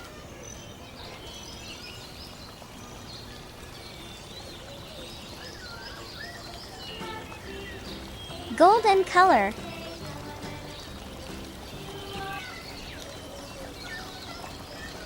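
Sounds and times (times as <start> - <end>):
birds chirping: 0.0 - 15.0
steady outdoor hiss: 0.0 - 15.0.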